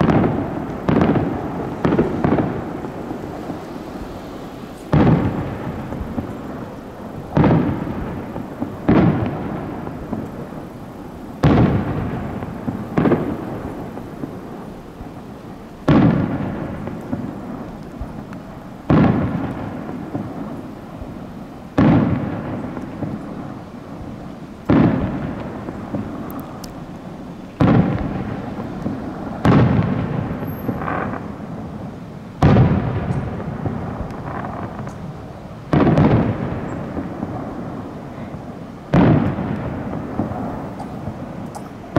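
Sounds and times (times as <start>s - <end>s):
fireworks shells bursting: 0.0s - 38.2s, 38.9s - 41.9s
rolling echo of booms: 0.0s - 41.9s.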